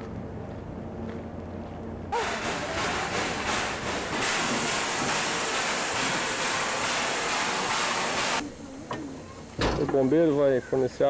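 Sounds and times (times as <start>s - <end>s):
steam locomotive hissing: 2.1s - 11.0s.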